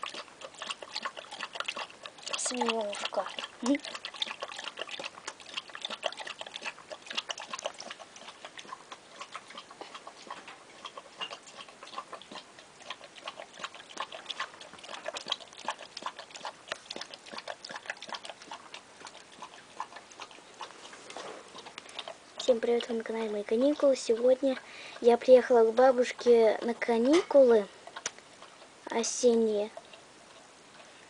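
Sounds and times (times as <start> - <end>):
dog lapping milk: 0.0 - 31.0.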